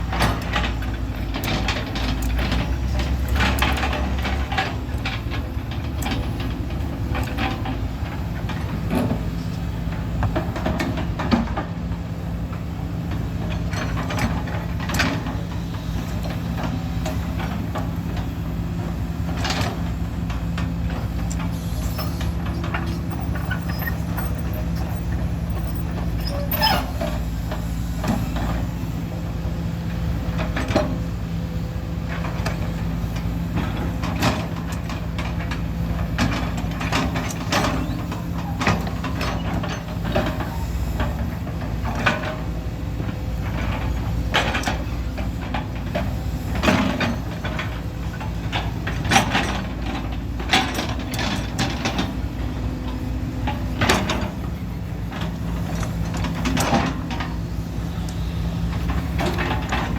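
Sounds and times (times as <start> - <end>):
truck engine running: 0.0 - 59.9
vehicle rattles and knocks: 0.0 - 59.9.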